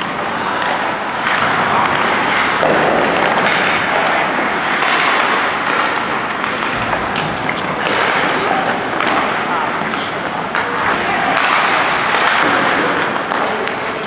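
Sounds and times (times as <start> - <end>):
sharp knocks and clacks: 0.0 - 13.8
echoing sports drill din: 0.0 - 14.0.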